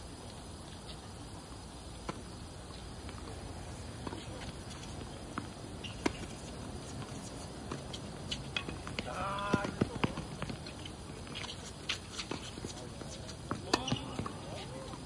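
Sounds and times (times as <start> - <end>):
tennis ball bouncing: 2.0 - 15.0.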